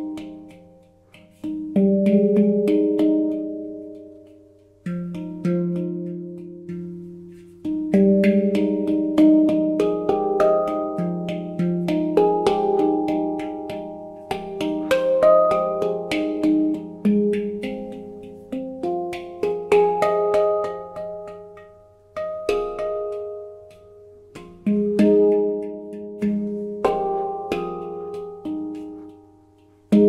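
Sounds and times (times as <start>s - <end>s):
handpan notes ringing: 0.0s - 30.0s.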